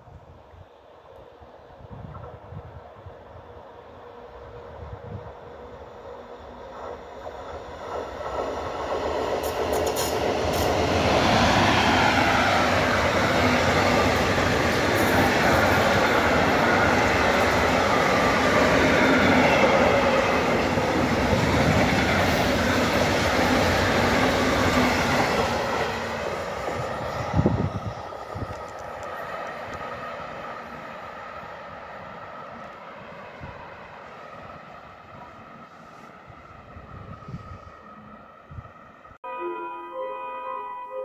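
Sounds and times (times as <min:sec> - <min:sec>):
freight train rolling past: 0:01.4 - 0:39.2.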